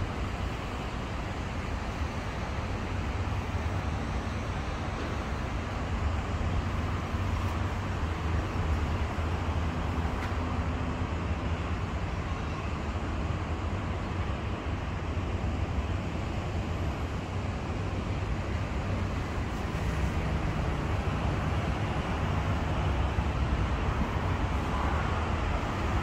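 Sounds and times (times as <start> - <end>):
low city rumble: 0.0 - 26.0.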